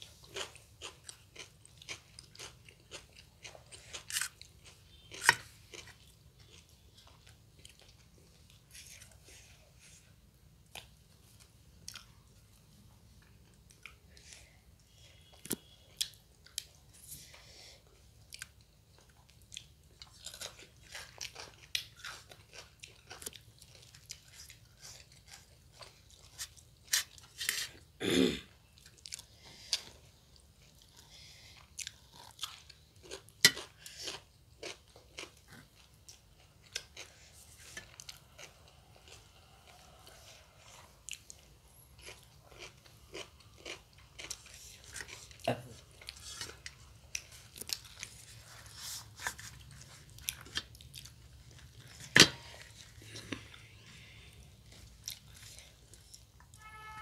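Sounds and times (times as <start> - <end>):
people chewing crunchy bread: 0.0 - 56.8.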